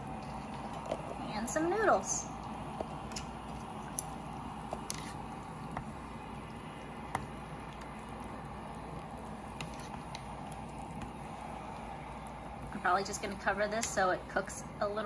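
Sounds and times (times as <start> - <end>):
chopsticks stirring noodles in broth: 0.0 - 14.0.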